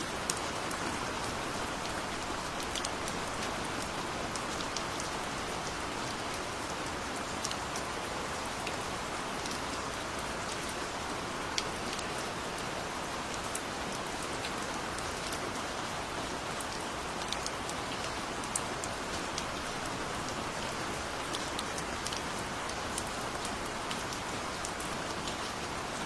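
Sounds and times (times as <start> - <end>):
gentle rain falling: 0.0 - 26.0.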